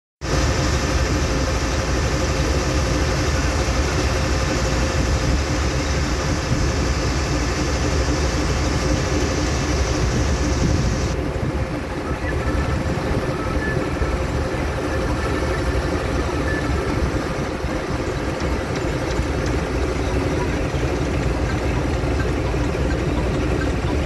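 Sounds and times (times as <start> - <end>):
boat engine running: 0.2 - 24.0.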